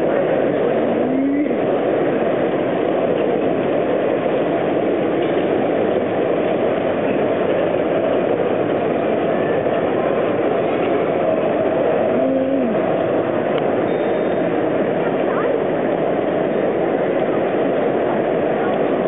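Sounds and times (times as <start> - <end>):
hall rumbling noise: 0.0 - 19.0
model train running on track: 0.0 - 19.0.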